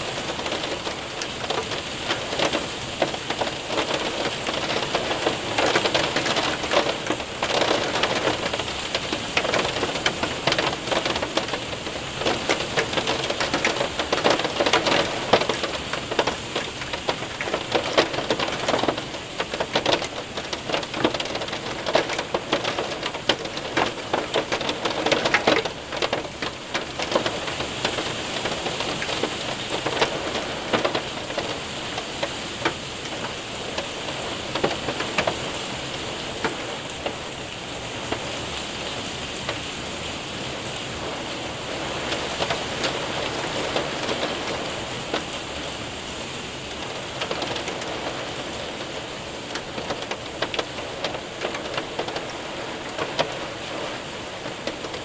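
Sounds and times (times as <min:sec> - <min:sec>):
hailstones ticking on glass: 0:00.0 - 0:38.3, 0:41.7 - 0:45.6, 0:46.8 - 0:55.0
hail and rain pelting window: 0:00.0 - 0:55.0.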